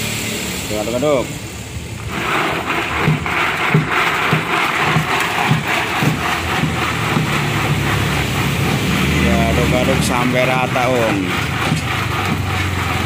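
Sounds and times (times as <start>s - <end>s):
ice and liquid sloshing in bucket: 1.9s - 13.0s.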